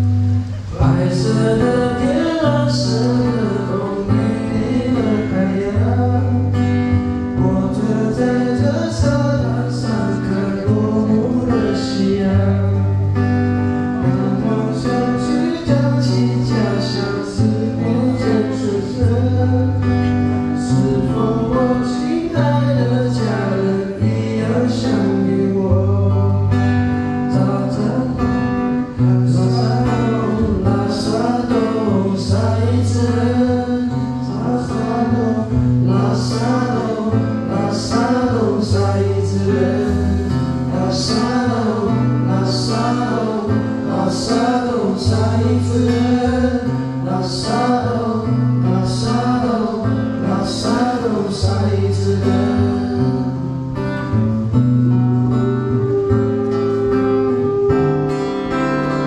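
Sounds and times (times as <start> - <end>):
acoustic guitar: 0.0 - 59.0.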